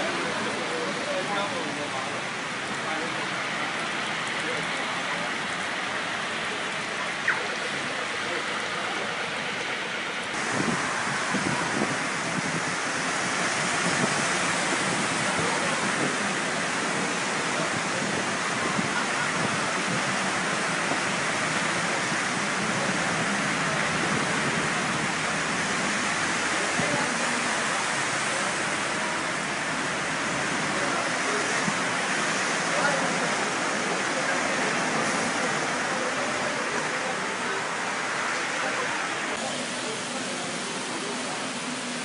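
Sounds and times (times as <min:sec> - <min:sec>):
heavy rain: 0:00.0 - 0:42.0
rushing floodwater: 0:00.0 - 0:42.0.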